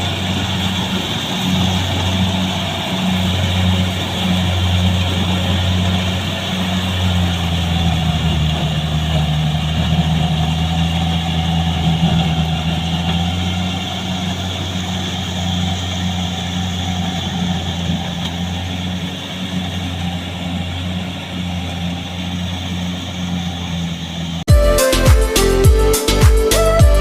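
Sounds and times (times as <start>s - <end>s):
tractor engine humming: 0.0s - 27.0s.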